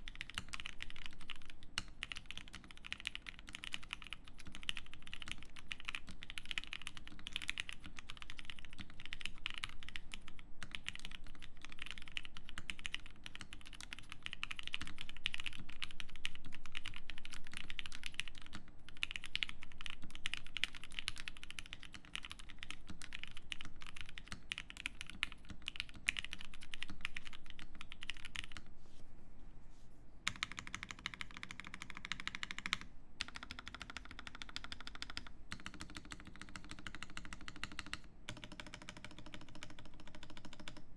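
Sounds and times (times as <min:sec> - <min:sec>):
mechanical keyboard typing: 0:00.0 - 0:28.6, 0:30.3 - 0:40.9.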